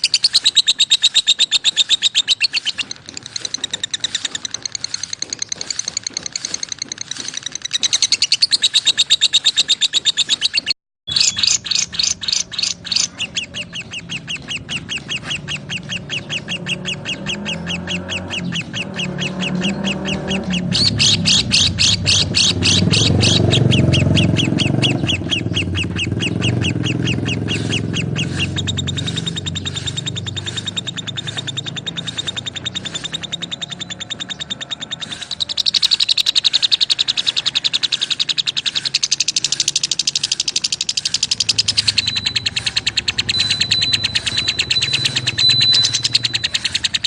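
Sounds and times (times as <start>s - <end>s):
lovebirds chirping: 0.0s - 47.0s.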